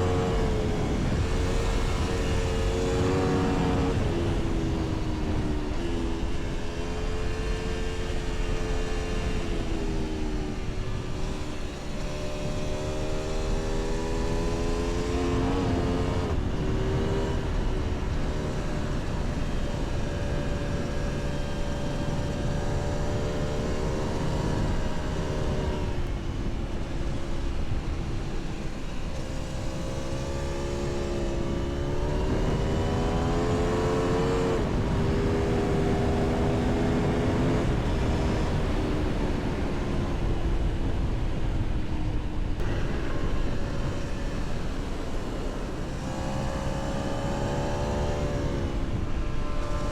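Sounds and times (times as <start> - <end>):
motorcycle engine revving: 0.0 - 26.2, 28.9 - 40.3, 42.6 - 49.9
wind noise: 0.0 - 49.9.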